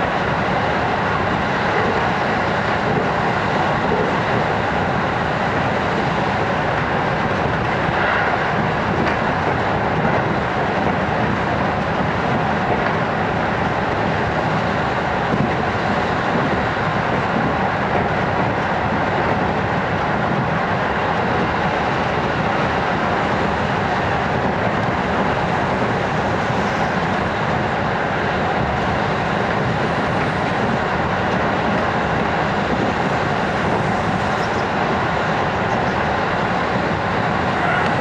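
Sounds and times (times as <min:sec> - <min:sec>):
train wheels on rail: 0:00.0 - 0:38.0.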